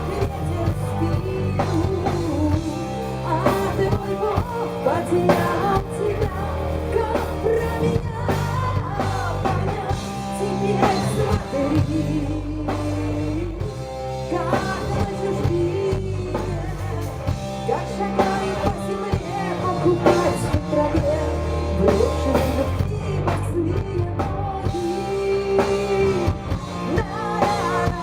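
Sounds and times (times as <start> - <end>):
bass guitar: 0.0 - 28.0
drums: 0.0 - 28.0
guitar: 0.0 - 28.0.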